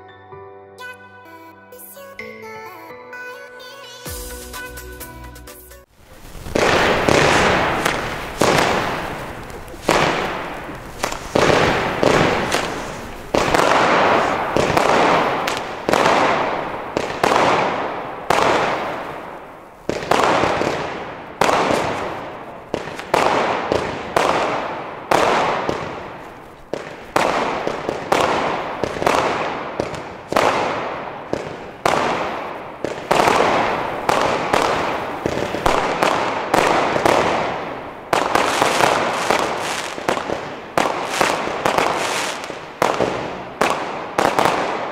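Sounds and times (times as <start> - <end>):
firework crackle: 5.8 - 44.9
firework bangs: 5.9 - 44.9.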